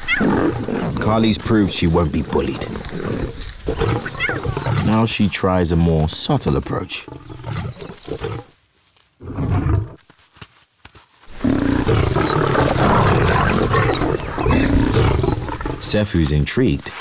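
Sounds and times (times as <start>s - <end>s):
lions snarling and roaring: 0.0s - 8.6s, 9.2s - 10.0s, 11.3s - 16.2s.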